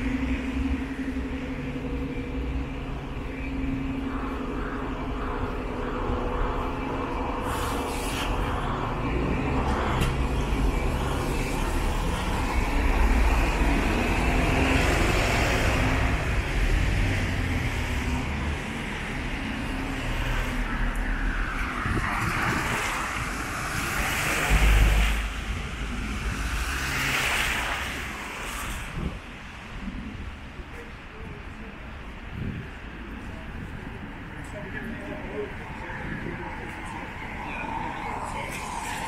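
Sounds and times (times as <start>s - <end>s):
cars and vans passing: 0.0s - 39.0s.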